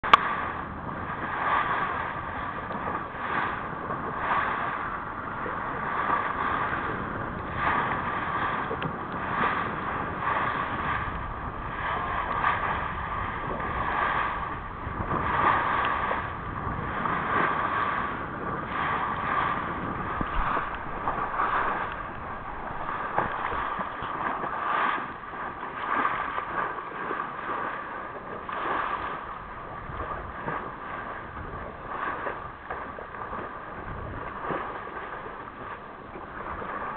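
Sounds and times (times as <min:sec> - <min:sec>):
water rushing along boat hull: 0:00.0 - 0:36.9
wind buffeting microphone: 0:00.0 - 0:36.9.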